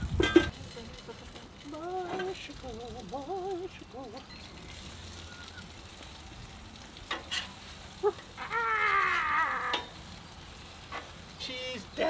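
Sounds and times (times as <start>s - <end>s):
burger patties sizzling on griddle: 0.0s - 12.0s.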